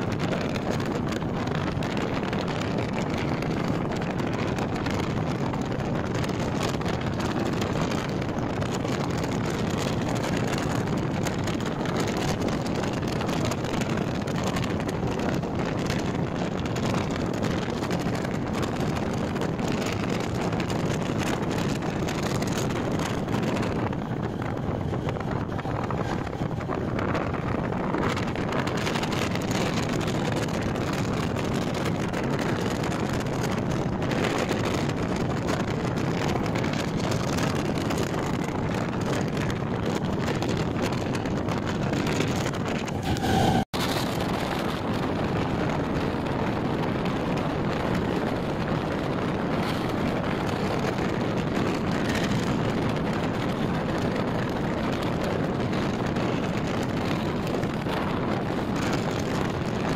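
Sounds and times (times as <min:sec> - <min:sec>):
train running on track: 0:00.0 - 0:59.9
wind buffeting microphone: 0:00.0 - 0:59.9.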